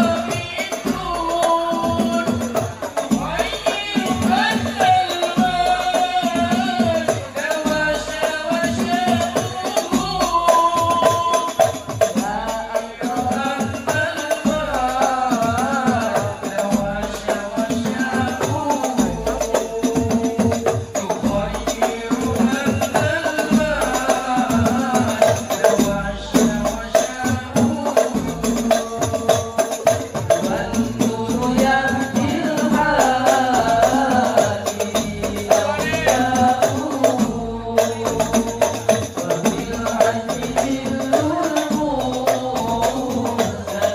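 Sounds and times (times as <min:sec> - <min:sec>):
hand-struck frame drums: 0:00.0 - 0:43.9
men singing through microphones: 0:00.0 - 0:43.9.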